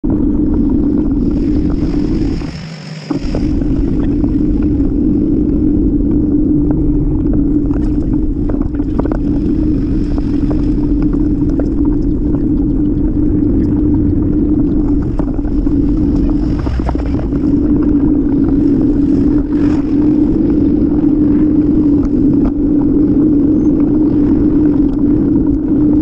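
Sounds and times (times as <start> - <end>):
steady hum: 0.0 - 26.0
wind and road noise: 0.0 - 26.0.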